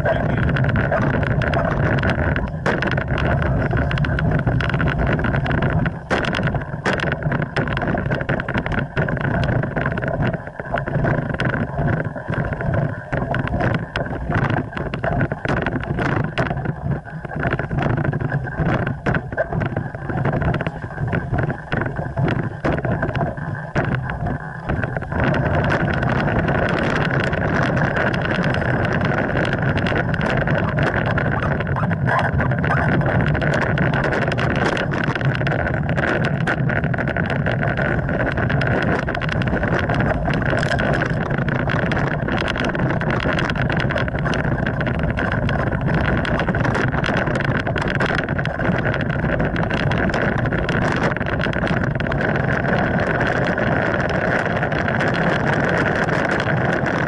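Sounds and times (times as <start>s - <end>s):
knocks and rustles: 0.0s - 57.0s
wind rumble on microphone: 0.0s - 57.0s.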